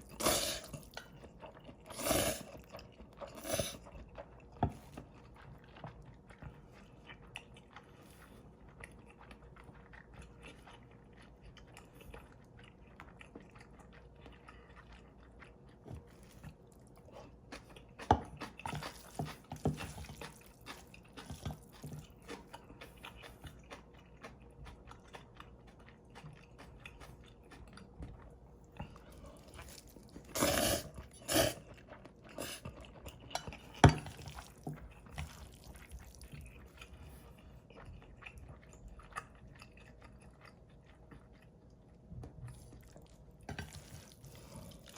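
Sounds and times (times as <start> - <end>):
person chewing noodles: 0.0 - 44.9.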